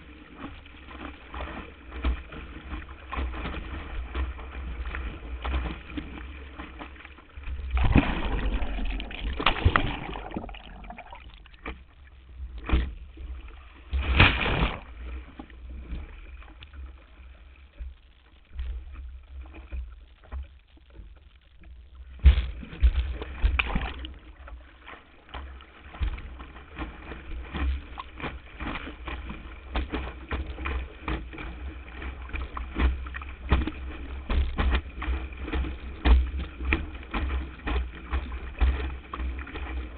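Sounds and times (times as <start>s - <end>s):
water rushing and splashing: 0.0s - 39.9s.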